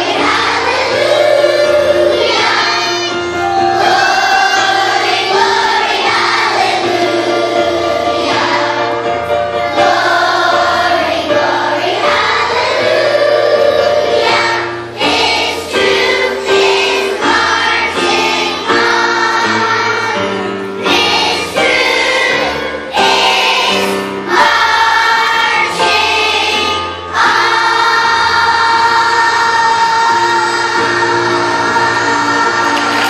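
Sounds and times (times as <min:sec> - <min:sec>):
children's choir singing: 0:00.0 - 0:33.0
instrumental accompaniment: 0:00.0 - 0:33.0.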